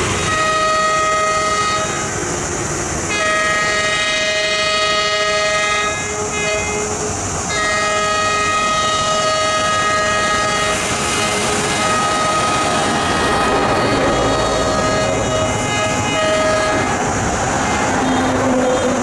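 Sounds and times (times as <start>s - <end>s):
locomotive air horn blasts: 0.2s - 2.1s, 3.1s - 17.2s, 17.9s - 19.0s.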